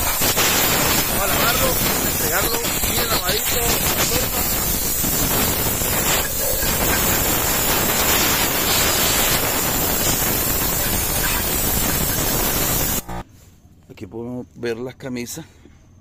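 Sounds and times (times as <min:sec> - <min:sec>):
spray lance hissing: 0:00.0 - 0:13.2.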